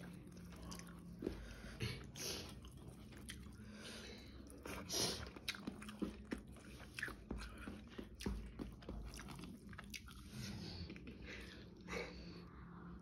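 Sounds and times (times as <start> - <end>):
person chewing with wet mouth smacks: 0.0 - 3.7, 4.4 - 11.6.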